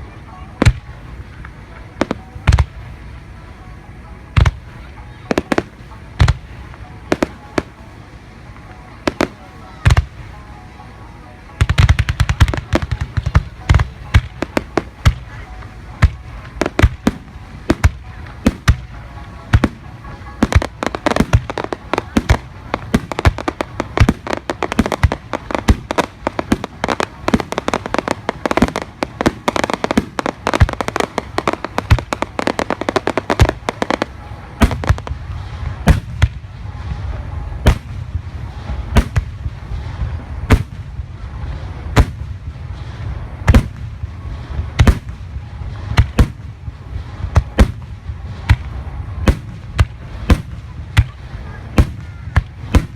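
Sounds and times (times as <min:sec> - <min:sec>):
fireworks bursting with bangs: 0:00.0 - 0:52.9
fireworks crackling: 0:00.0 - 0:52.9.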